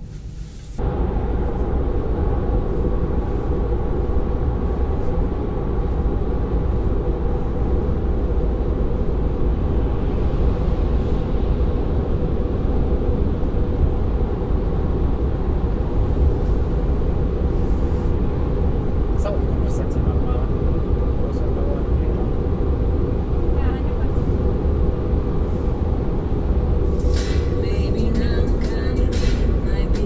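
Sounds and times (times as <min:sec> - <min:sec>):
road and wind noise in car: 0:00.0 - 0:30.0.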